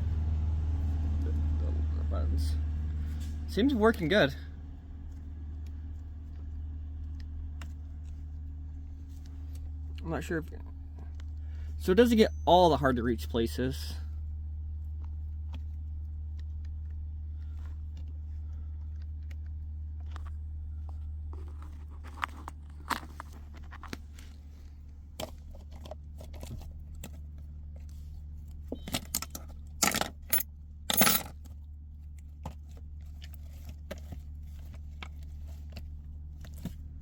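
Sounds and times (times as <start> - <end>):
low hum in truck cab: 0.0 - 37.0.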